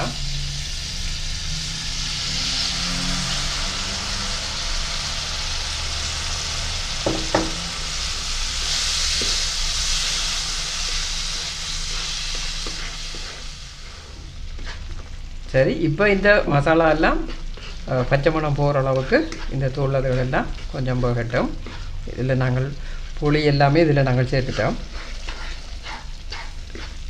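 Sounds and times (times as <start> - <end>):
liquid sizzling in hot oil: 0.0 - 27.0.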